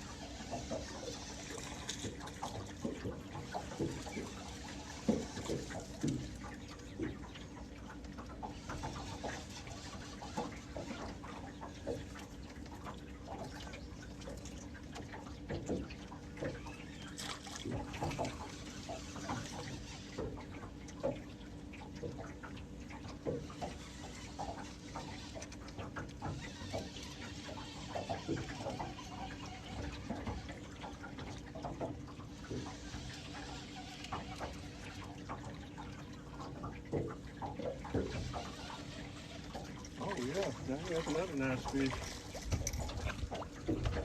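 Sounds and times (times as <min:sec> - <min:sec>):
water splashing and lapping: 0:00.0 - 0:44.0.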